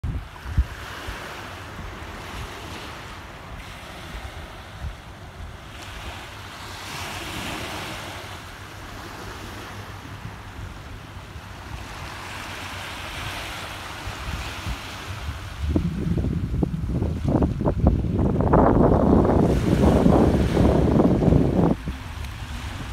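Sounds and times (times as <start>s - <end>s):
wind rumble on microphone: 0.0s - 22.9s
waves lapping on rocky beach: 0.1s - 22.9s.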